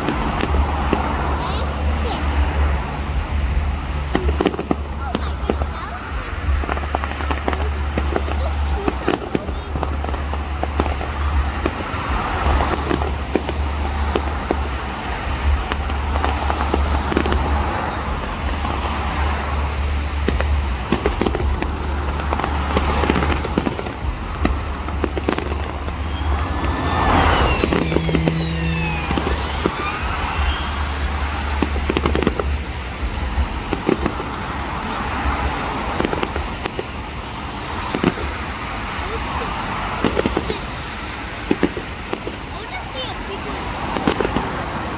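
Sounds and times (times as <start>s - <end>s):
low rumble: 0.0s - 40.2s
fireworks bangs and crackling: 0.0s - 44.9s
whistling fireworks: 0.0s - 44.9s.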